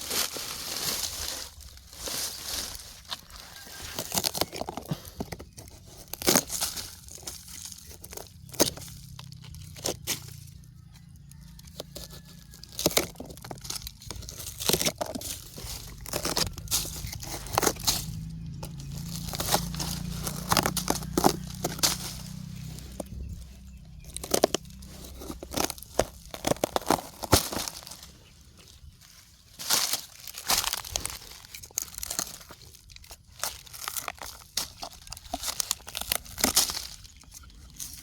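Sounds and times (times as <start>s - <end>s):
dry wood crackling and snapping: 0.0s - 38.0s.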